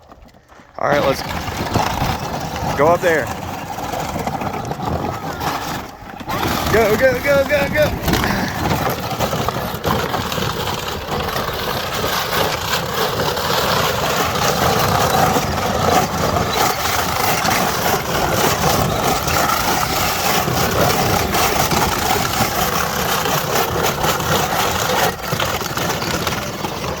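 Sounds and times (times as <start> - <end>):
toy electric motors running: 0.8 - 27.0.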